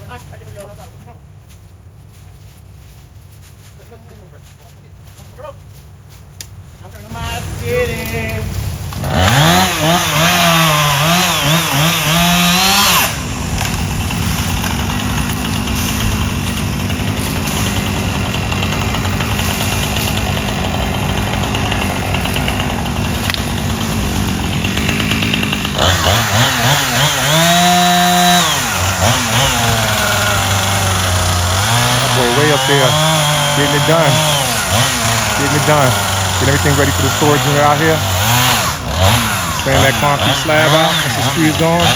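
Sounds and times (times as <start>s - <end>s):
chainsaw running: 7.1s - 41.9s.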